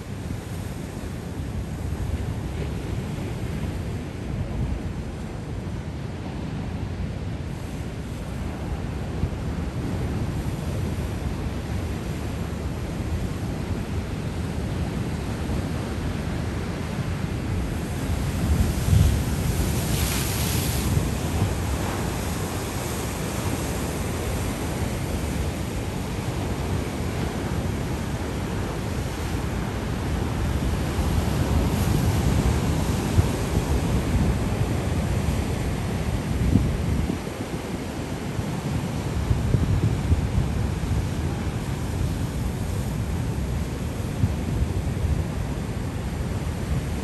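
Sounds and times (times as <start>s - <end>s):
ocean surf on rocky shore: 0.0s - 47.0s.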